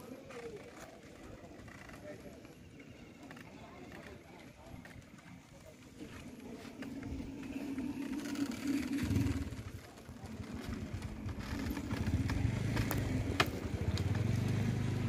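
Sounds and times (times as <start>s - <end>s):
motor engine humming: 0.7s - 15.0s.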